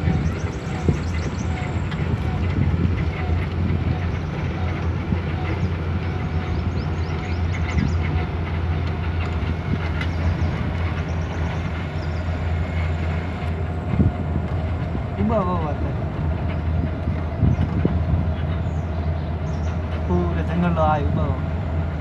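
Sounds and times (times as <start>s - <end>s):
rattling and clicking: 0.0s - 20.7s
engine drone: 0.0s - 22.0s.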